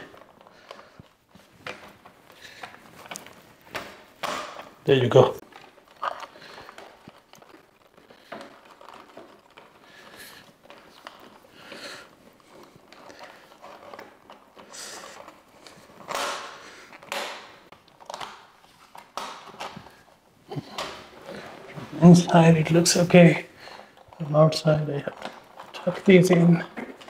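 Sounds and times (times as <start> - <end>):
plastic cables rustling and scraping: 0.0 - 27.0.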